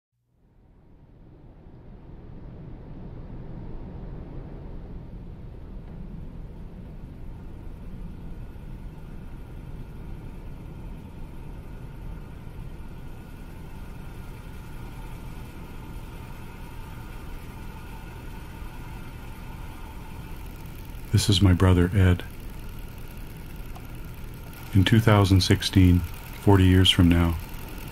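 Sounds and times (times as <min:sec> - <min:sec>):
low rumbling drone: 0:00.4 - 0:27.9
faint high steady tones: 0:05.6 - 0:27.9.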